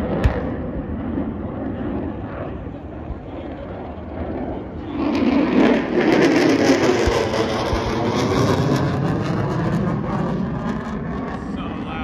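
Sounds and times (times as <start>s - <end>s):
aircraft flying past: 0.0s - 12.0s.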